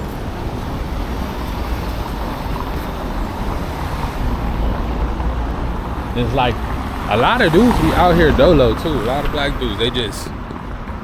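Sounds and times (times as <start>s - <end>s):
street traffic: 0.0s - 11.0s
wind buffeting microphone: 0.0s - 11.0s.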